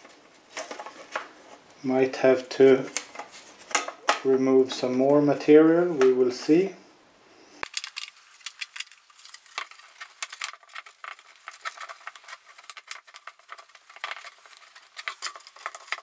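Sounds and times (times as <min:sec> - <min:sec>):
rustling: 0:00.0 - 0:06.7, 0:07.4 - 0:16.0.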